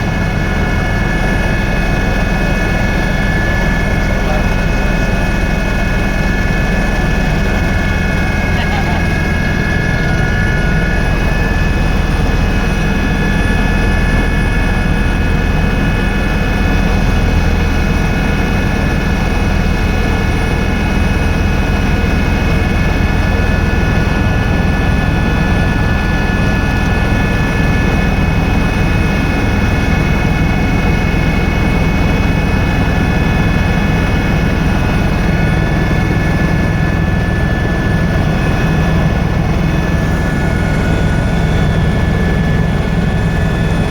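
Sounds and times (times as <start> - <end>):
helicopter rotor and engine drone: 0.0 - 43.9.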